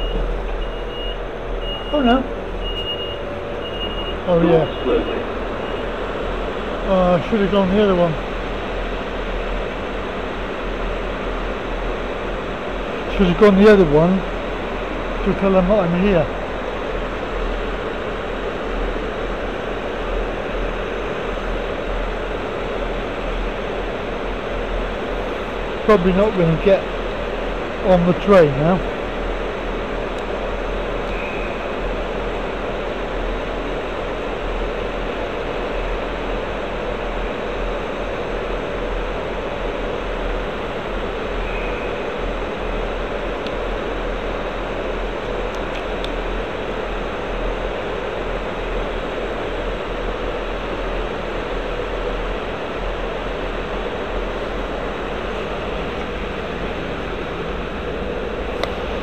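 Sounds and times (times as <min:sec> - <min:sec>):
diesel train engine idling: 0:00.0 - 0:59.0.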